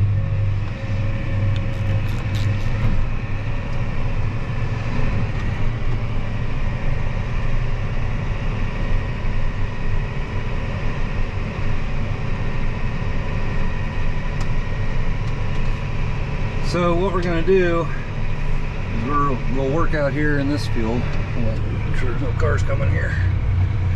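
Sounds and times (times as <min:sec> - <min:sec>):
faint steady whine: 0:00.0 - 0:23.9
farm vehicle engine rumbling: 0:00.0 - 0:23.9.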